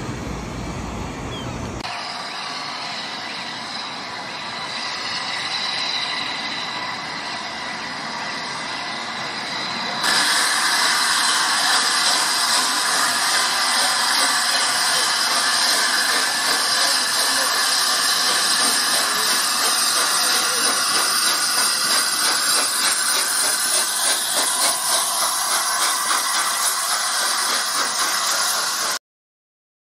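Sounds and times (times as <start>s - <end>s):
steam locomotive passing: 0.0s - 29.0s
steam hissing: 1.8s - 29.0s.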